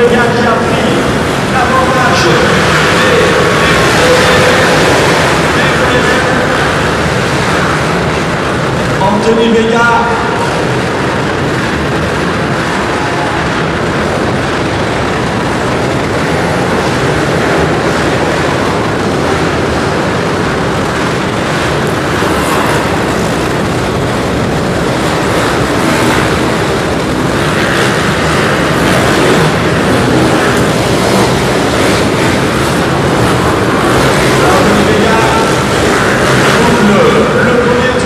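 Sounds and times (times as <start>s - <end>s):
pit bike engines revving: 0.0s - 38.0s.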